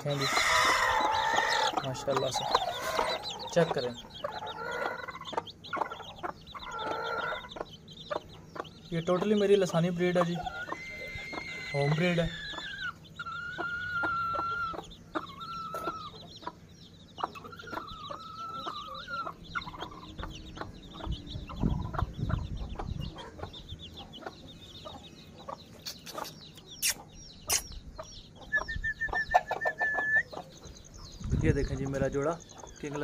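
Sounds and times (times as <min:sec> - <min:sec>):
chicks peeping: 0:00.0 - 0:33.0
hen clucking: 0:00.0 - 0:33.0.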